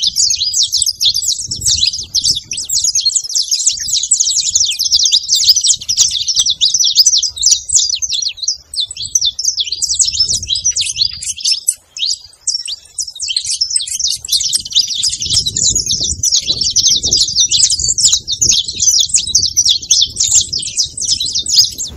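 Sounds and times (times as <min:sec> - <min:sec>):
finches chirping and trilling: 0:00.0 - 0:21.9.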